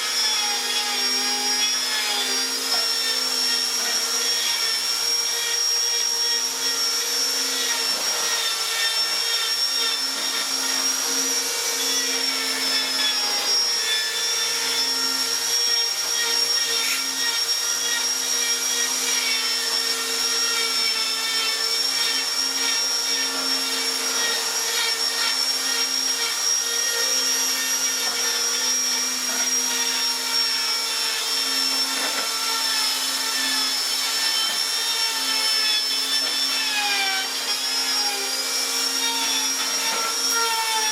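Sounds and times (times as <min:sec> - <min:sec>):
electric power tool whining: 0:00.0 - 0:40.9.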